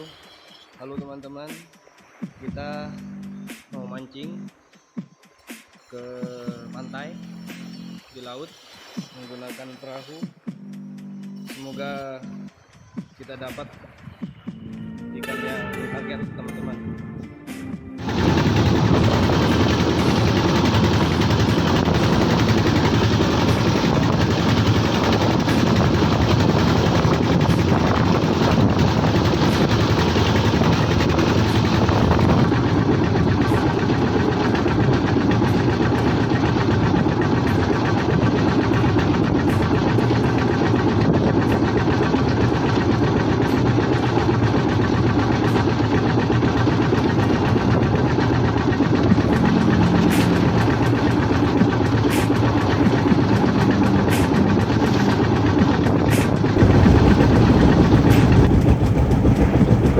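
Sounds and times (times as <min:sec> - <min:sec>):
boat engine running: 0:02.1 - 0:04.5, 0:06.0 - 0:12.5, 0:17.9 - 0:59.9.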